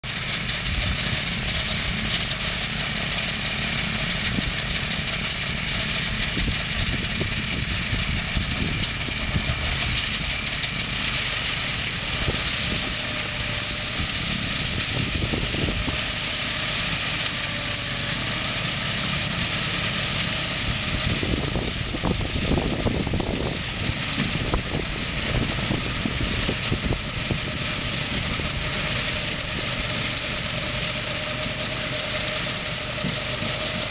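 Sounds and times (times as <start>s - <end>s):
small engine running: 0.0s - 33.9s
snowblower throwing snow: 0.1s - 33.9s.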